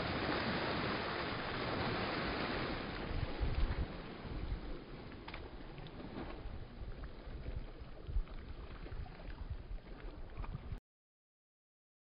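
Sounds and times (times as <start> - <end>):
wind rumble on microphone: 0.0 - 10.8.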